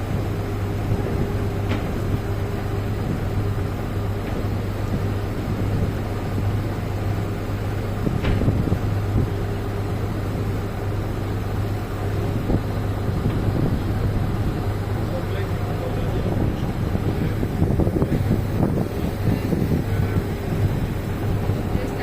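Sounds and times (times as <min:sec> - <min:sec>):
low engine drone: 0:00.0 - 0:22.0
wind on microphone: 0:00.0 - 0:22.0.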